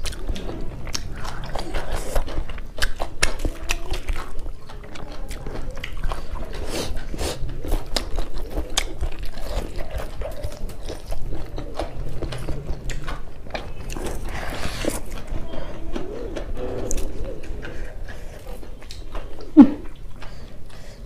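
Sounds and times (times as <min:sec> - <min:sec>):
wet chewing and lip-smacking: 0:00.0 - 0:21.0.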